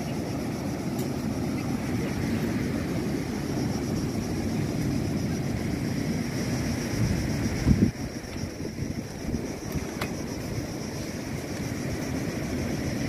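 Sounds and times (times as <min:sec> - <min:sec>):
wind buffeting microphone: 0:00.2 - 0:13.0.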